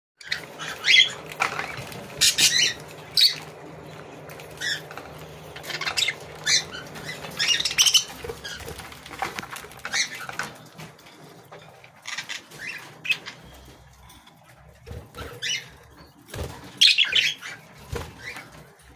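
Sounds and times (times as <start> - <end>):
budgerigars chirping: 0.2 - 10.8, 11.8 - 13.8, 14.8 - 18.6
low hum: 0.2 - 16.7.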